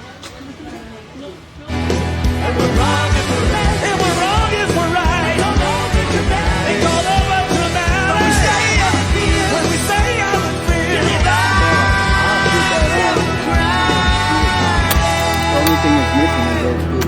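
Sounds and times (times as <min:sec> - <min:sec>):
drums: 0:01.4 - 0:17.0
bass guitar: 0:01.7 - 0:17.0
person singing: 0:02.5 - 0:17.0.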